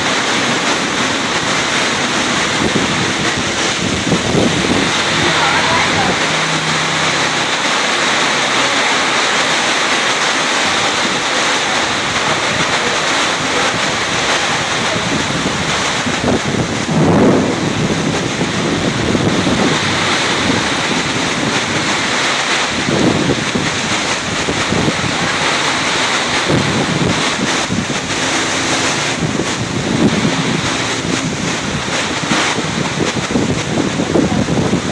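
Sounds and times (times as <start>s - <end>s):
heavy rain hissing: 0.0s - 34.9s
wind gusts on microphone: 0.0s - 34.9s.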